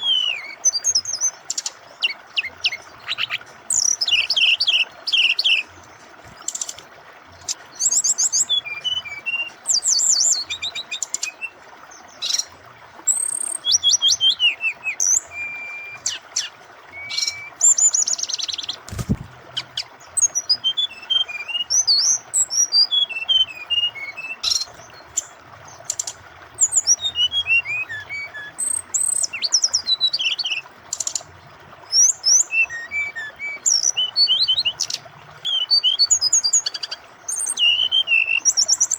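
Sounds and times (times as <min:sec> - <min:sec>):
bird singing chirps and trills: 0:00.0 - 0:38.9
running water hiss: 0:00.0 - 0:38.9.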